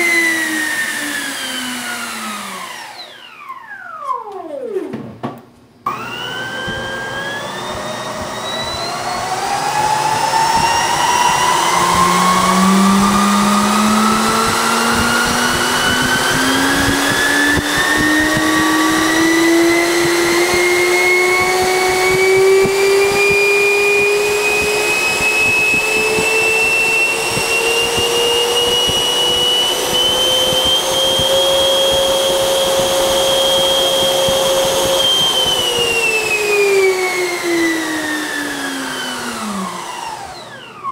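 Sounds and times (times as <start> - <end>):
electric ducted fan whine: 0.0 - 40.9.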